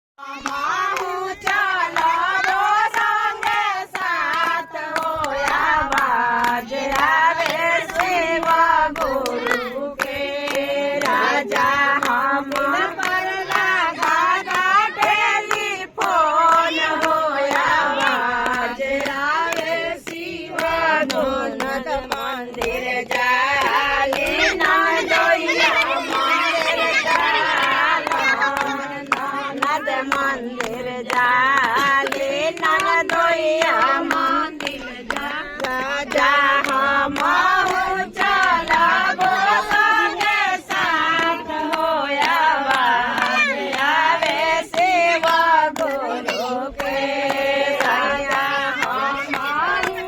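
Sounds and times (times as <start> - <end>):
people singing devotional song: 0.0 - 50.0
rhythmic hand clapping: 0.2 - 50.0.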